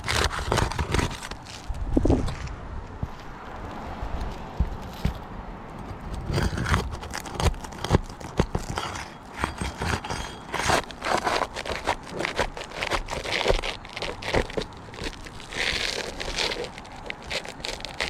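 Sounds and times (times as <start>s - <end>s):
shingle scraping and tearing: 0.0s - 2.5s, 4.1s - 18.0s.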